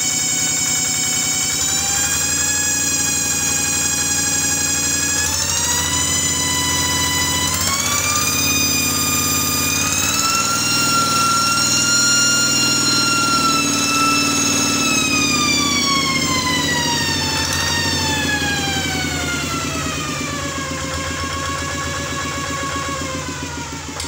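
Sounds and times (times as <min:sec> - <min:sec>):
diesel engine rumble: 0:00.0 - 0:24.0
high whistling whine: 0:00.0 - 0:24.0.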